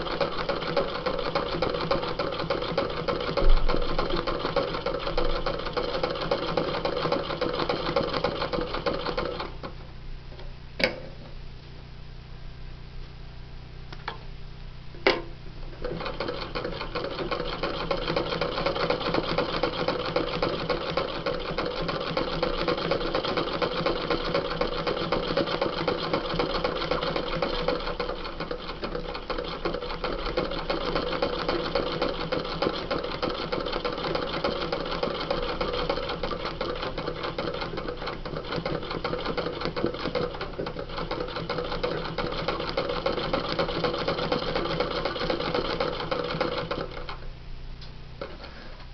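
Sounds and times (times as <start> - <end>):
sewing machine stitching: 0.0 - 9.7, 15.8 - 47.2.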